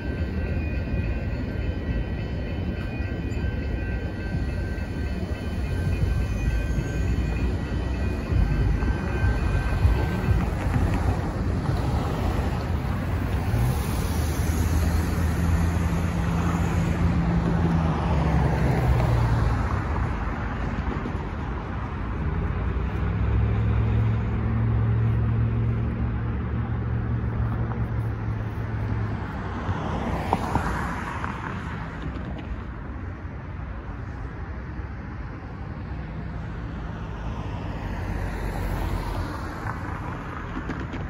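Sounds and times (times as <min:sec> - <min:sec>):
cars driving by: 0:00.0 - 0:41.0.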